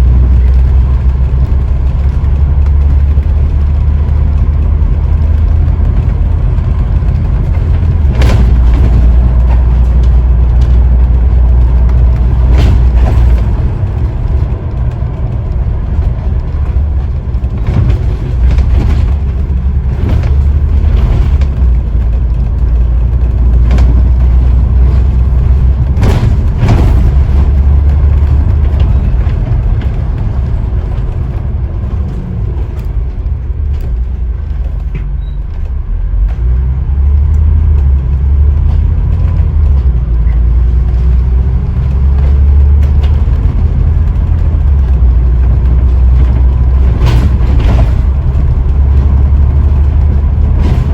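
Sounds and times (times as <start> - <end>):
bus engine and road rumble: 0.0 - 50.9
sharp knocks and rattles: 0.0 - 50.9.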